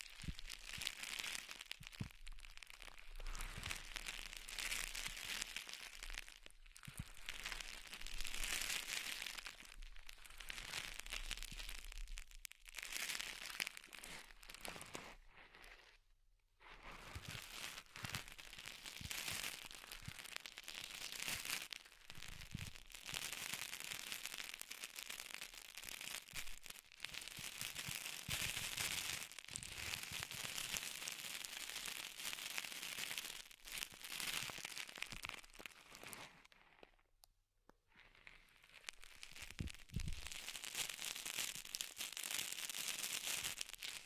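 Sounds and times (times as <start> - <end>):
crinkling and crackling: 0.0 - 44.0.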